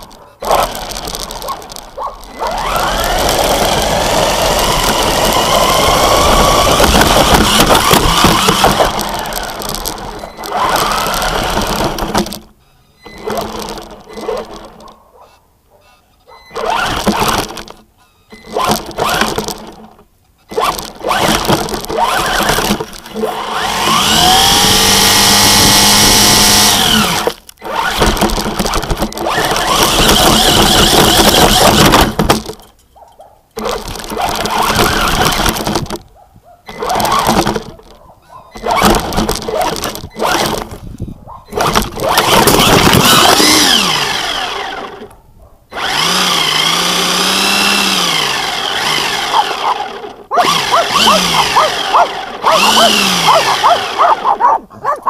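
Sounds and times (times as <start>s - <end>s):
electric motor whining: 0.0s - 14.9s, 16.5s - 32.5s, 33.6s - 36.0s, 36.7s - 37.9s, 38.6s - 54.4s
rattling and scraping on rough ground: 0.0s - 55.0s.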